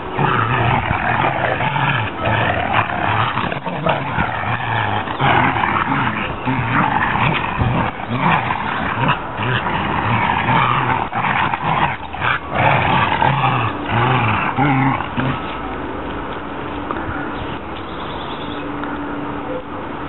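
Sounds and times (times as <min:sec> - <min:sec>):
dogs play-growling: 0:00.0 - 0:17.0.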